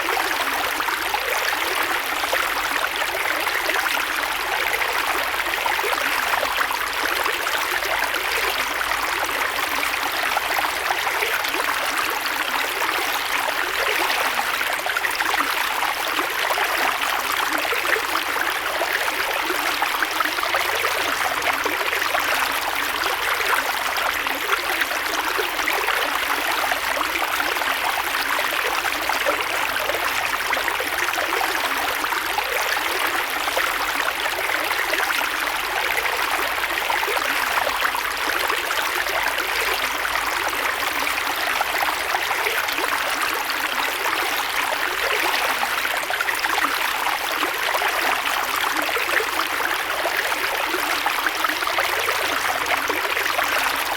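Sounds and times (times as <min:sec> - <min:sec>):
creek water babbling over stones: 0:00.0 - 0:53.9.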